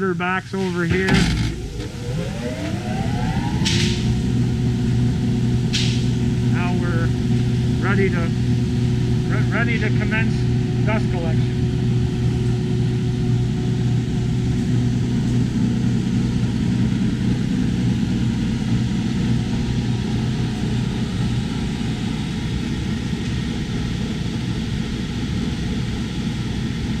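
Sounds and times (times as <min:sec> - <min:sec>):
dust collector blower running: 0:00.6 - 0:27.0.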